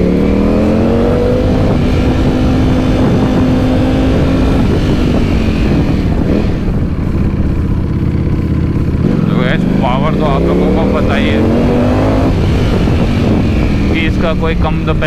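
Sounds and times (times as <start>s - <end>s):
motorcycle engine revving: 0.0s - 15.0s
wind and road rumble: 0.0s - 15.0s.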